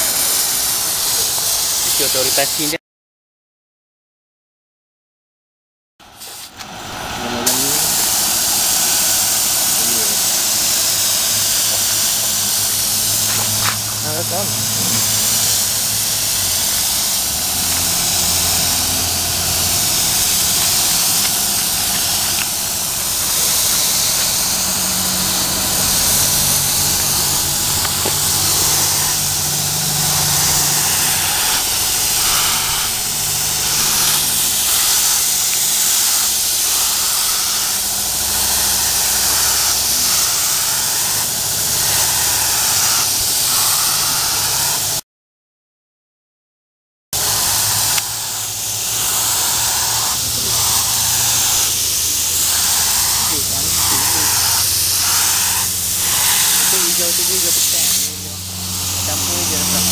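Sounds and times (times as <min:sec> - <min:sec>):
paint spray gun hissing: 0:00.0 - 0:02.8, 0:06.2 - 0:45.0, 0:47.2 - 0:59.9
low mechanical hum: 0:06.5 - 0:45.0, 0:47.2 - 0:59.9.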